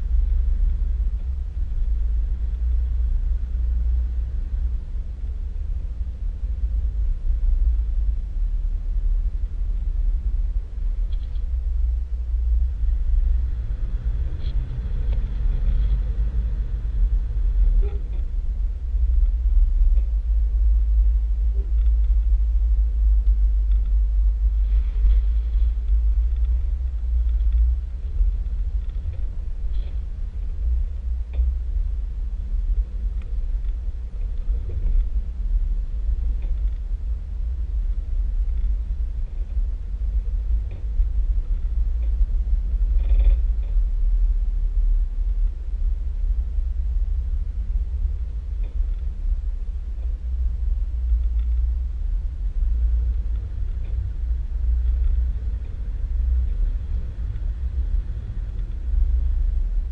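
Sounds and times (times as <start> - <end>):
off-road vehicle engine rumble: 0.0 - 59.9
wind buffeting microphone: 0.0 - 59.9.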